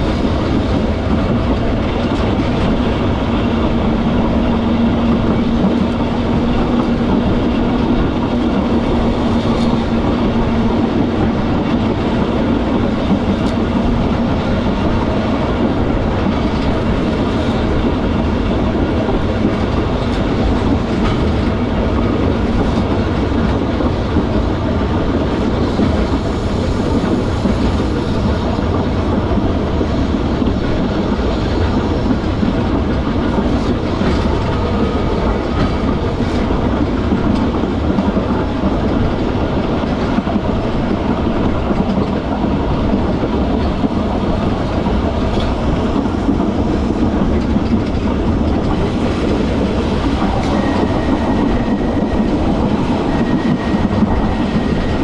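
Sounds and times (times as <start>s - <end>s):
tram wheels on rail: 0.0s - 55.0s.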